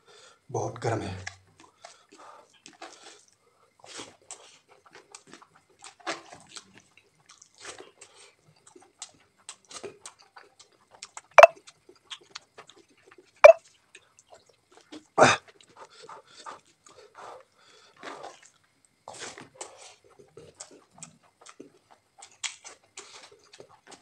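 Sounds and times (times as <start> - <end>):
wet chewing and lip smacks: 1.2 - 24.0.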